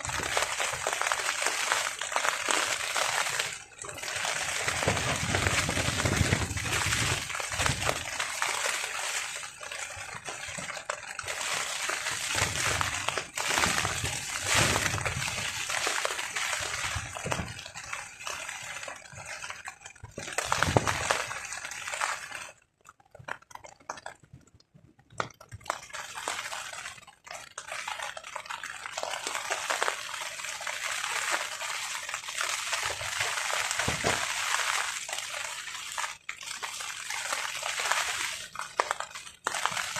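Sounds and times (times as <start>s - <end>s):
rain beating on a tarp: 0.0s - 24.4s, 25.1s - 39.9s.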